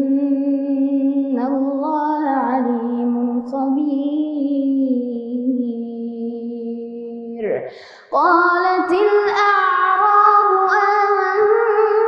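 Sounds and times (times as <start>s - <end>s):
girl chanting melodic recitation: 0.0s - 12.0s.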